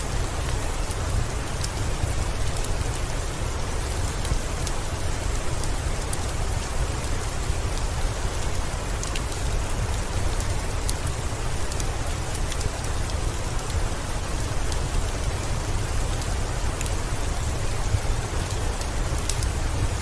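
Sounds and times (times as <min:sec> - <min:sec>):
heavy rain: 0:00.0 - 0:20.0
wood fire crackling: 0:00.0 - 0:20.0.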